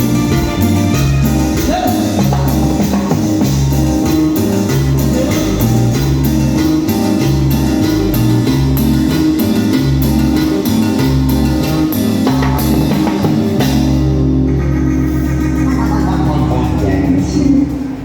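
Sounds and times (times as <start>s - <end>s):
band playing rock music: 0.0s - 18.0s.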